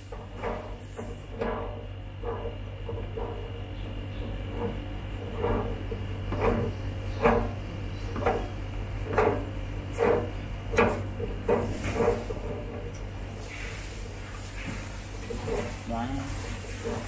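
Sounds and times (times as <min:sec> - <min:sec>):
metal caster scraping: 0:00.0 - 0:17.0.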